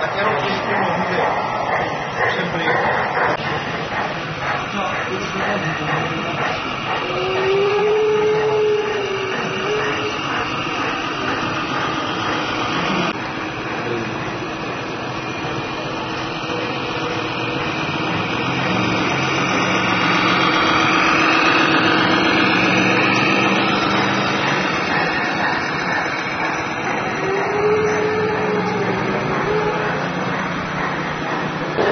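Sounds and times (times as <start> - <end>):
electric motor and gearbox whine: 3.6 - 31.9.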